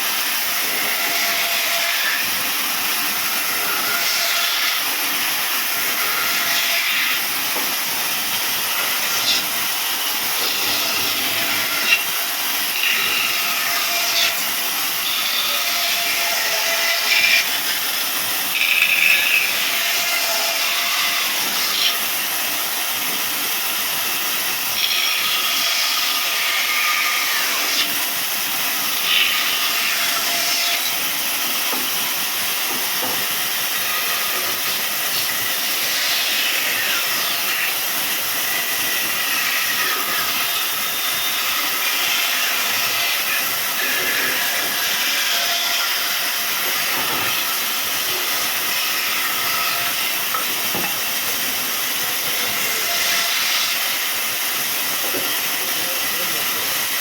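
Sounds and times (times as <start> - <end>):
saw cutting through wood: 0.0 - 57.0.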